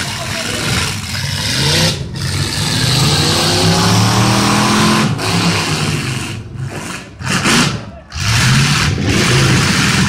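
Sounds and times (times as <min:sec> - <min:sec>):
car engines revving hard: 0:00.0 - 0:10.0.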